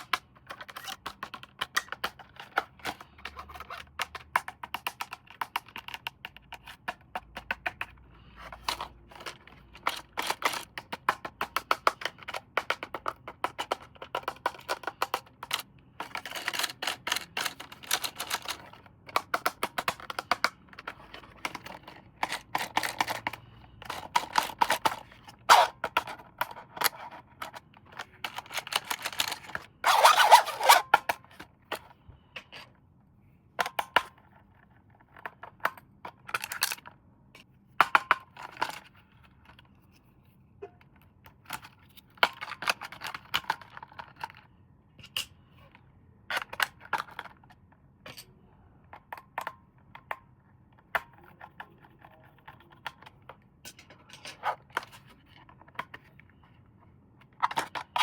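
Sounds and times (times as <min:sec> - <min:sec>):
plastic toy parts and packaging handled: 0:00.0 - 0:32.9, 0:33.6 - 0:58.0.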